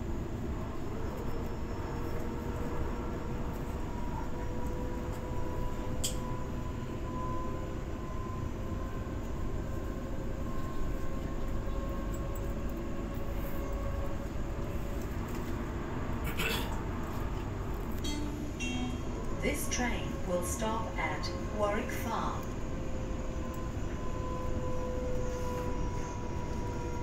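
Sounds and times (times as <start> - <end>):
faint steady whine: 0.0 - 27.0
train wheels rumbling on rail: 0.0 - 27.0.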